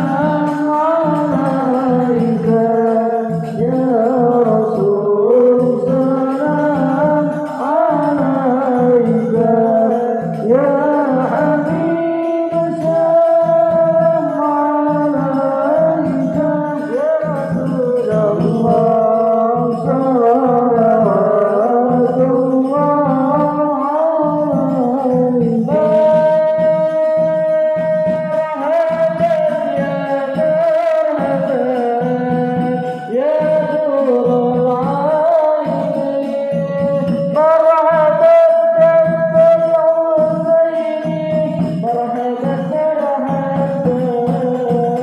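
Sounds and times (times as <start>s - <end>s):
person singing ornamented melody: 0.0s - 45.0s.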